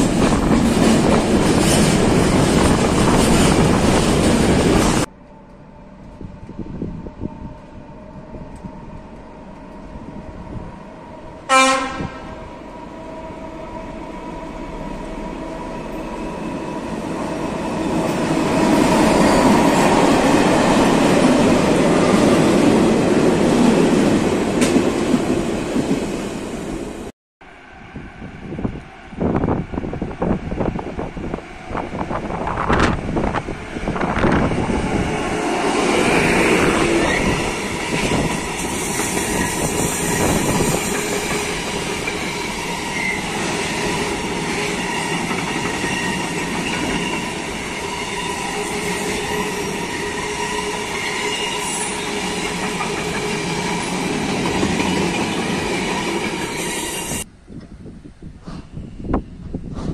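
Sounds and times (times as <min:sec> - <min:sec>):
freight train wheels rumbling: 0:00.0 - 0:57.7, 0:58.3 - 0:59.9.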